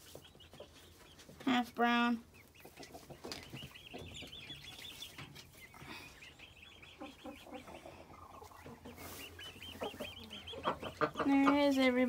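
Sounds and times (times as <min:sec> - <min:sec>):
chicks peeping: 0:00.0 - 0:12.0
hens clucking: 0:00.0 - 0:12.0.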